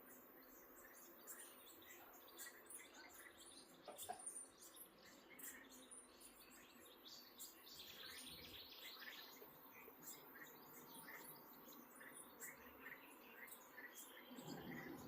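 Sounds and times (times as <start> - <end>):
bird chirps: 0.0 - 15.0.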